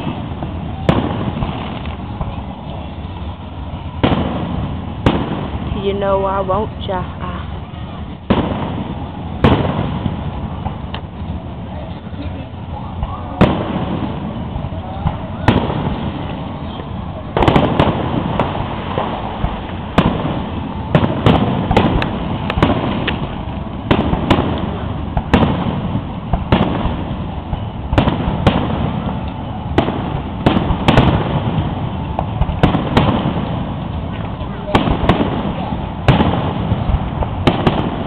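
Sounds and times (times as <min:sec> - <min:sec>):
fireworks bangs with echo: 0:00.0 - 0:38.0.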